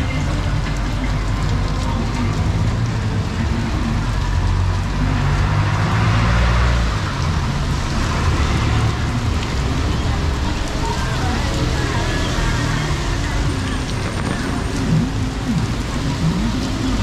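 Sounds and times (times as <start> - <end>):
rain hissing: 0.0 - 17.0
traffic: 0.0 - 17.0
vehicle engine humming: 0.0 - 17.0.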